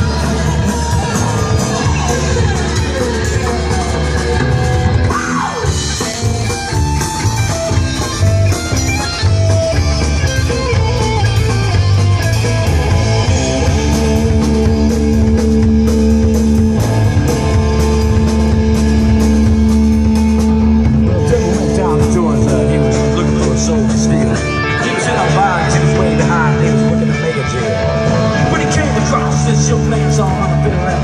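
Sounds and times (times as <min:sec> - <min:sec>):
drum kit: 0:00.0 - 0:31.0
electric guitar: 0:00.0 - 0:31.0.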